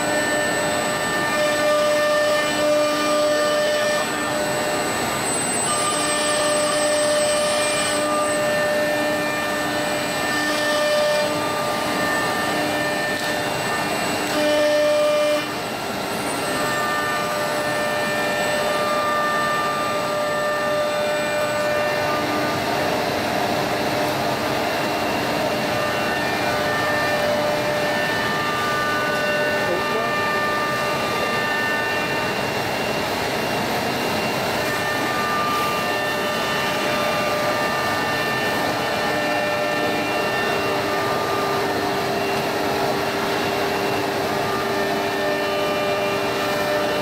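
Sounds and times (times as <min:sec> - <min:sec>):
constant machine noise: 0:00.0 - 0:47.0
router motor whining: 0:00.0 - 0:47.0.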